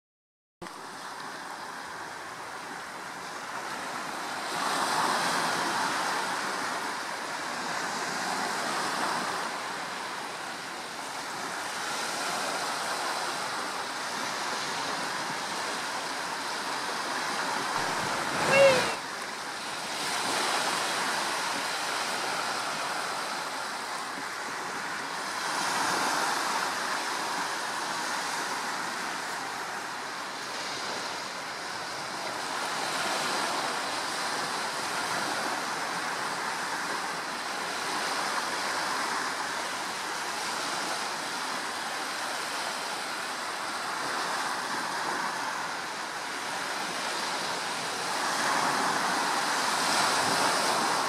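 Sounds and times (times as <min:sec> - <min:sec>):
waves breaking: 0:00.6 - 0:51.0
strong wind: 0:00.8 - 0:51.0.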